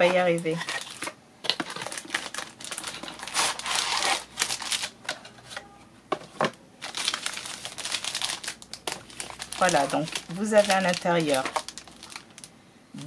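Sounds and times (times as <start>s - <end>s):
plastic wrapping crinkling: 0.0s - 5.0s, 6.4s - 12.5s.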